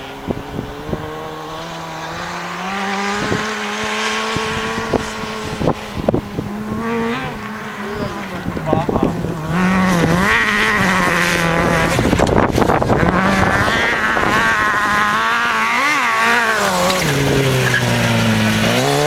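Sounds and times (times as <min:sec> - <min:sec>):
motorcycle engine revving hard: 0:00.0 - 0:19.0.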